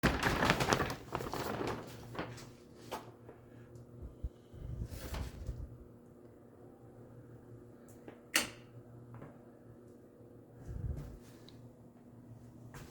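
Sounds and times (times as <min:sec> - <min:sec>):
faint steady hum: 0:00.1 - 0:12.9.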